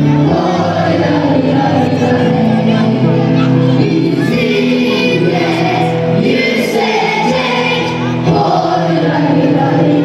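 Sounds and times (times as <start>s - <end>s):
choir singing with accompaniment: 0.0s - 10.0s.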